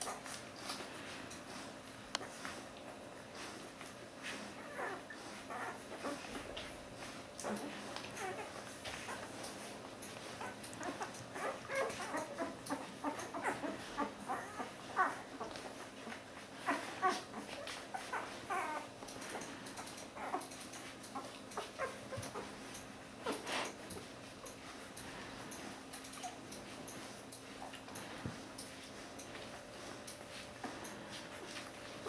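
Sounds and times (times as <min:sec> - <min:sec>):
puppies squeaking and whimpering: 0:03.3 - 0:32.0.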